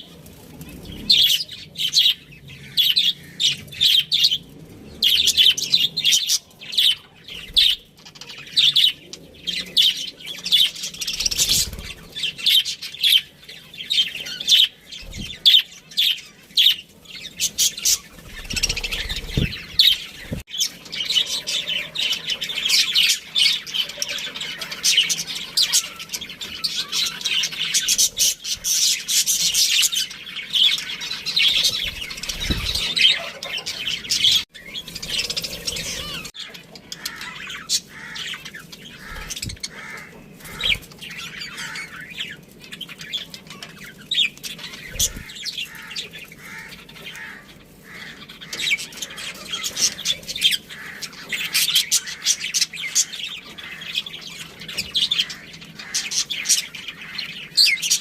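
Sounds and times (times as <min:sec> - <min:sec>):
budgerigars chattering: 0:00.8 - 0:58.0.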